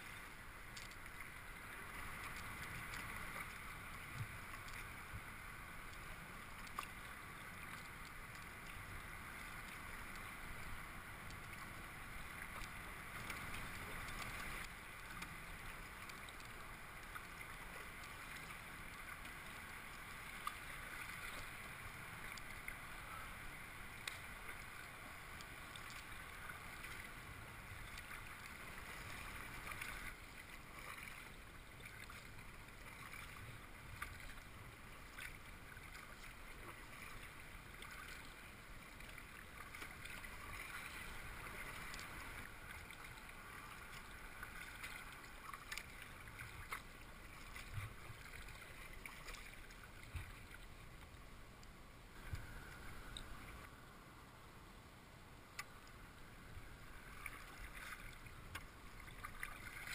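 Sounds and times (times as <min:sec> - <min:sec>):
paddle splashing water: 0:00.0 - 0:53.8, 0:55.5 - 0:59.9.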